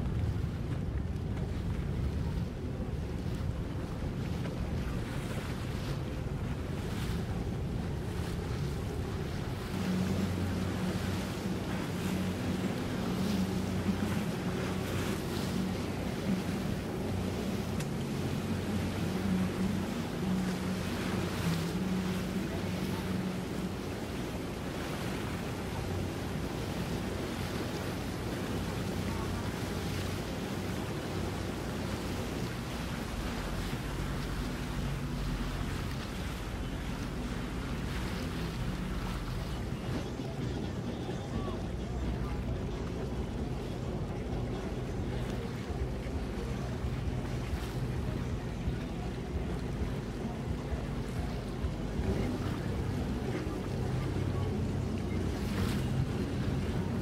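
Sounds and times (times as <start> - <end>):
motorboat engine rumbling: 0.0 - 57.0
rushing water: 0.0 - 57.0
wind buffeting microphone: 0.0 - 57.0.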